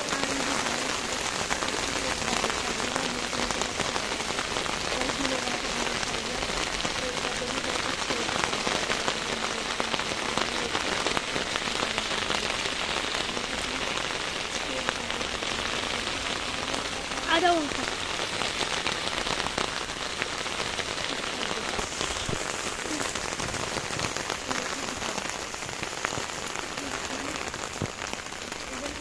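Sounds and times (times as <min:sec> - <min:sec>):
heavy rain on concrete: 0:00.0 - 0:29.0.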